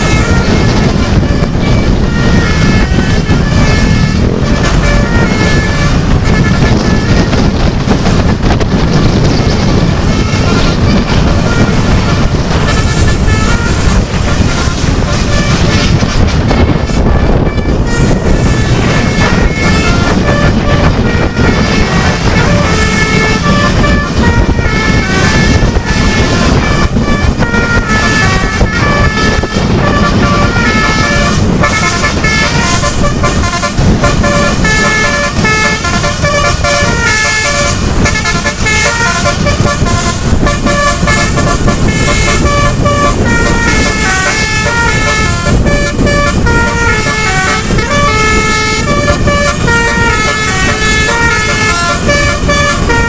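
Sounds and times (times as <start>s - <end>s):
multi-tone bus horn tune: 0.0s - 53.0s
vehicle rumble: 0.0s - 53.0s.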